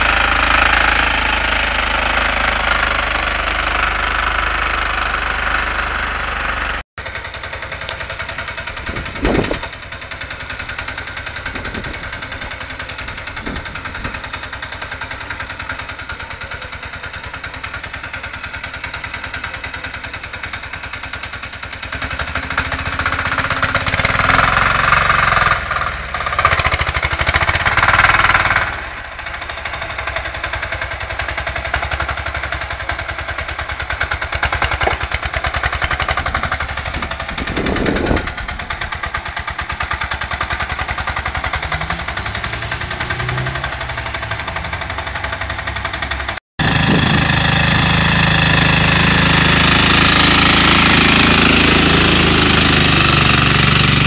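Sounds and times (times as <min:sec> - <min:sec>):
small diesel engine knocking: 0:00.0 - 0:54.0.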